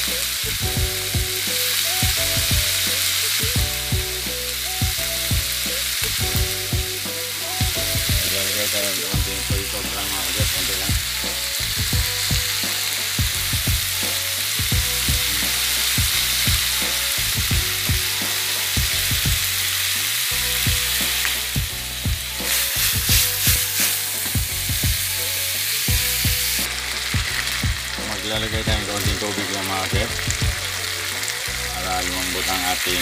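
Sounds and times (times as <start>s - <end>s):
meat sizzling in a frying pan: 0.0s - 33.0s.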